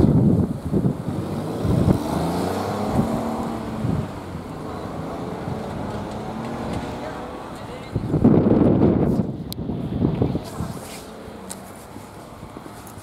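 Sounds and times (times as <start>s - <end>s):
vehicle engine pulling away: 0.0s - 13.0s
wind buffeting the microphone: 0.0s - 13.0s.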